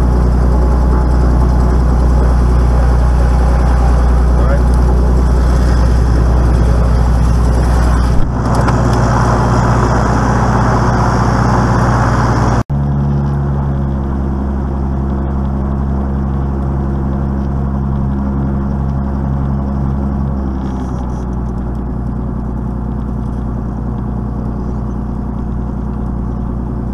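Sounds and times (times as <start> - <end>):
piston aircraft engine running: 0.0 - 26.9.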